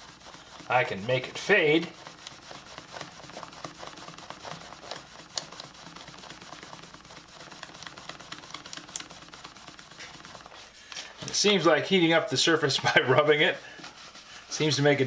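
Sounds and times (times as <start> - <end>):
paper towel scrubbing vinyl: 0.0 - 15.0.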